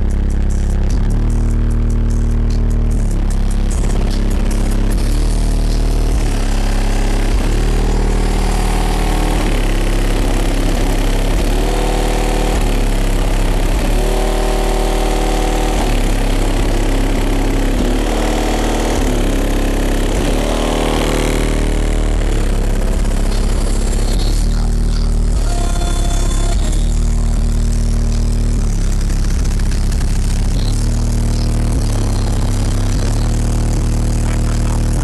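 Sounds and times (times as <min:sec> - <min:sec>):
loud music with deep bass: 0:00.0 - 0:35.0.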